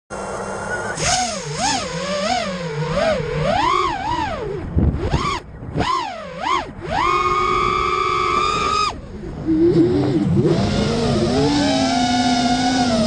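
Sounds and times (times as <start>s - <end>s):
quadcopter motors whining: 0.1s - 13.0s.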